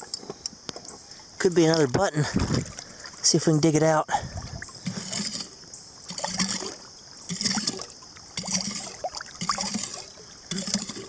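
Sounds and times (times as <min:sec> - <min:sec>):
water sloshing and gurgling: 0:00.0 - 0:11.0.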